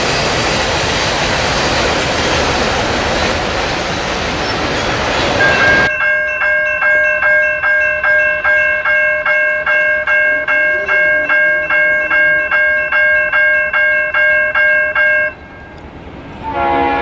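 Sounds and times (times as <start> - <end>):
railroad crossing bell ringing: 2.2 - 17.0.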